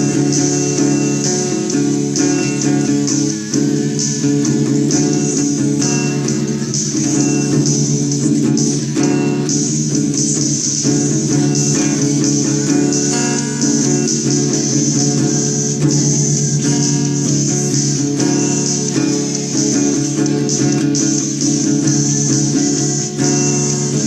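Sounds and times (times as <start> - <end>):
hard rock band music: 0.0 - 24.0.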